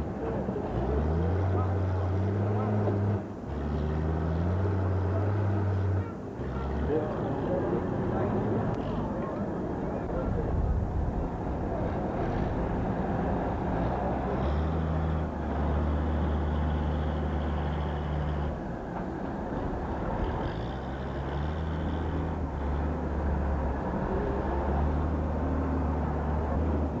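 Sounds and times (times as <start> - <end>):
street noise: 0.0 - 27.0
wheel loader engine running: 0.0 - 27.0.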